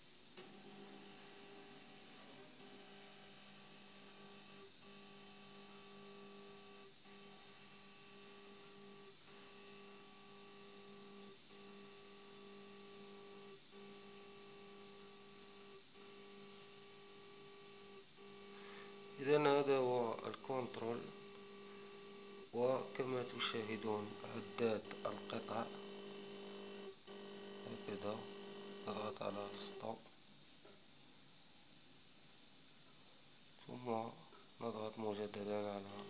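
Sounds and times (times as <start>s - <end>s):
stepper motor humming: 0.4s - 30.0s.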